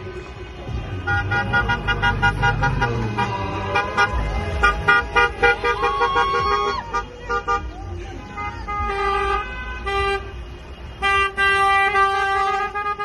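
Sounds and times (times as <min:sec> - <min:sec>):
car horns honking: 0:00.8 - 0:13.0.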